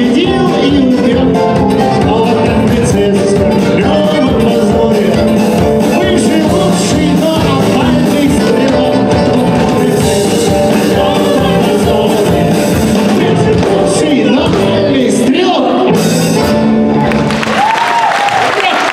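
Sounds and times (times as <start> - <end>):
man singing: 0.0 - 16.4
acoustic guitar: 0.0 - 17.4
band accompaniment: 0.0 - 18.9.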